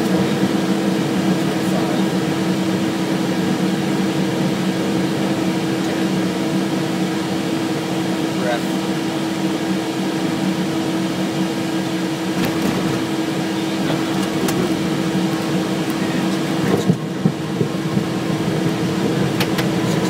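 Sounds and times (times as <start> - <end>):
jet engine and airflow noise: 0.0 - 20.0
steady low hum: 0.0 - 20.0.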